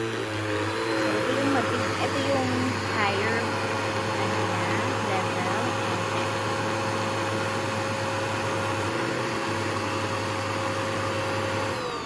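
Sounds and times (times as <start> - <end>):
vacuum cleaner motor whine: 0.0 - 12.0.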